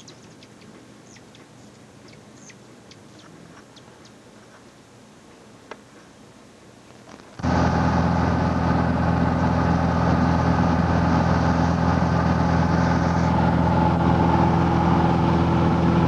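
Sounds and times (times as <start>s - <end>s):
airplane engine and propeller drone: 0.0s - 16.0s.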